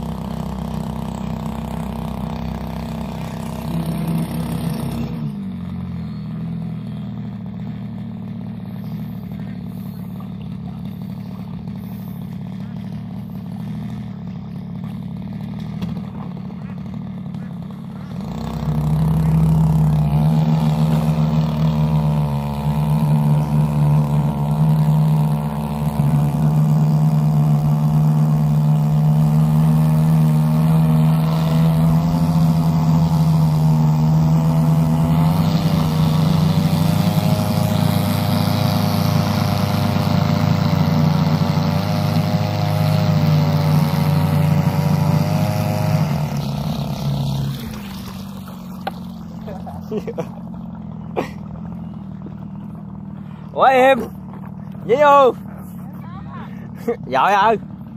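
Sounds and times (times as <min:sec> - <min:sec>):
two-stroke boat motor running: 0:00.0 - 0:57.9.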